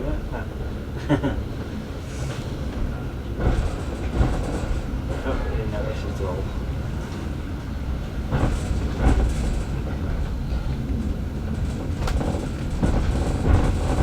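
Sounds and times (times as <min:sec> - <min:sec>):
railway carriage knocks and clunks: 0:00.0 - 0:14.0
train wheels rumbling on rails: 0:00.0 - 0:14.0.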